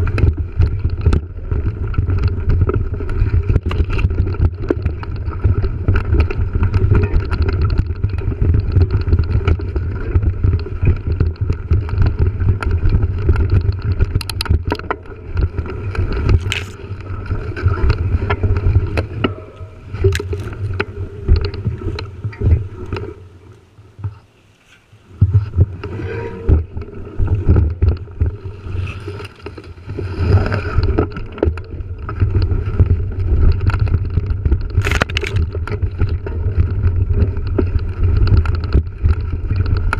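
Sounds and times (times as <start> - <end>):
bike rattling over bumps: 0.0 - 23.4, 25.3 - 39.9
wind and riding rumble: 0.0 - 39.9.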